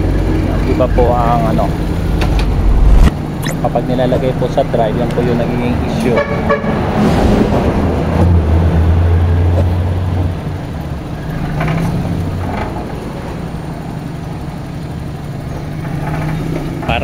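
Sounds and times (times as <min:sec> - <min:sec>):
car engine idling: 0:00.0 - 0:06.1, 0:08.9 - 0:17.0.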